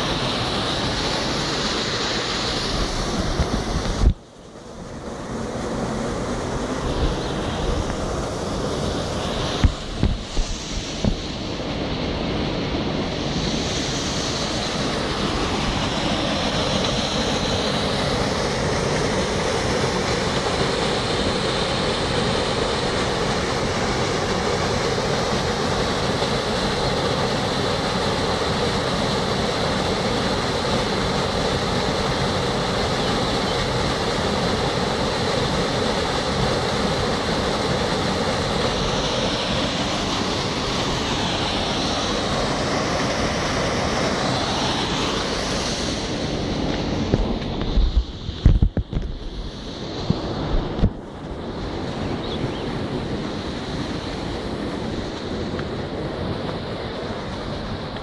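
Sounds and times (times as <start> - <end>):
waterfall rushing water: 0.0 - 47.8.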